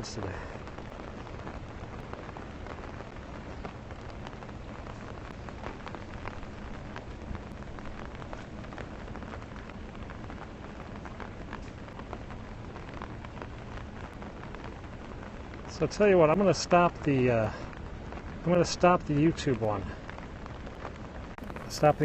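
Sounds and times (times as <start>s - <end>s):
raindrops ticking close by: 0.0s - 22.0s
steady rain falling: 0.0s - 22.0s.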